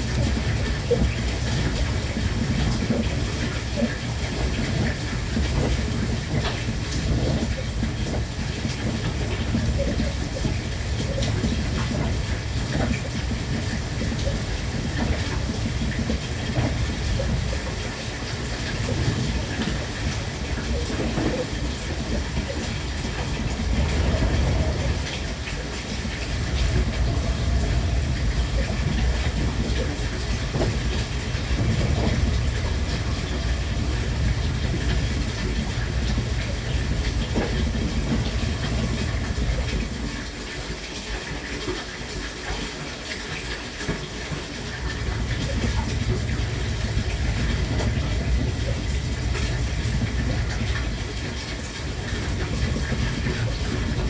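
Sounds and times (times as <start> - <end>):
train running rumble: 0.0 - 54.0
wheel clatter over rail joints: 0.0 - 54.0.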